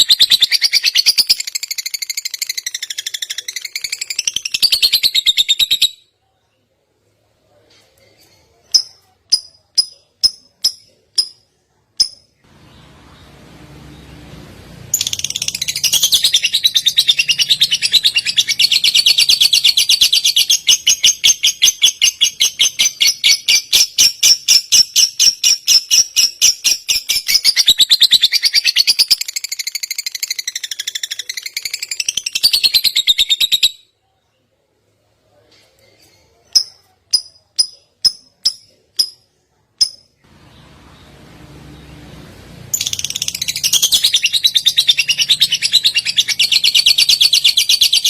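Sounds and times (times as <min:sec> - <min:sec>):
songbird high chirps: 0:07.9 - 0:34.6, 0:35.8 - 0:48.0.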